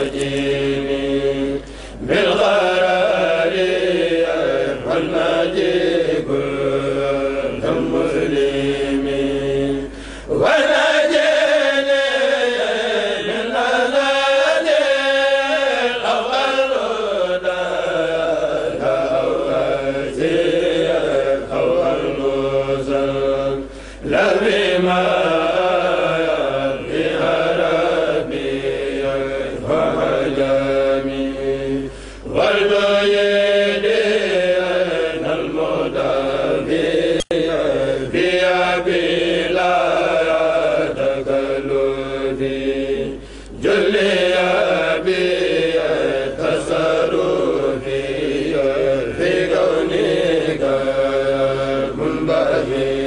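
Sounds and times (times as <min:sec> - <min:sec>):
men chanting together: 0:00.0 - 0:53.0.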